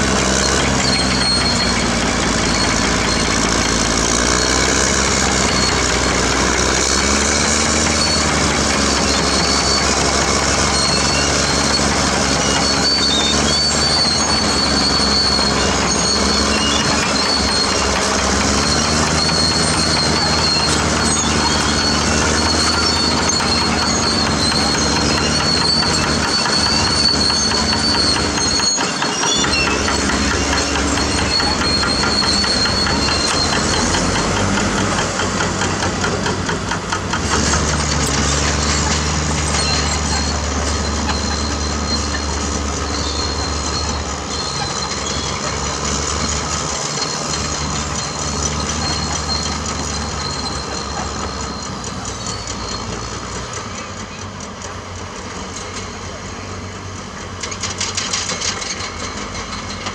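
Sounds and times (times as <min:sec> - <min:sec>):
bulldozer diesel engine: 0:00.0 - 0:59.9
steel tracks clattering and squealing: 0:00.0 - 0:59.9.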